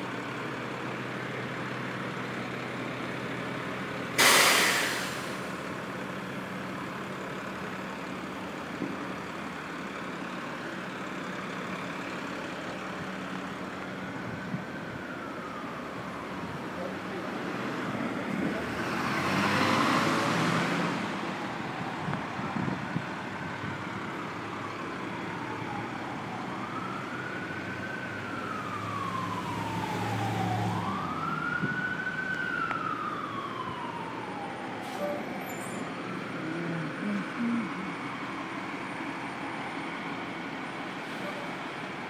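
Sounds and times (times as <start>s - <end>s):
city street traffic: 0.0s - 42.0s
emergency vehicle siren wailing: 0.0s - 42.0s
rush of street noise: 0.0s - 42.0s.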